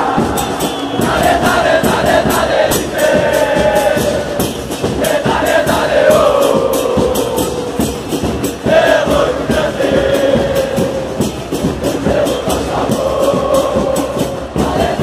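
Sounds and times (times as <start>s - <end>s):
crowd chanting in unison: 0.0s - 15.0s
steady drum beat: 0.0s - 15.0s.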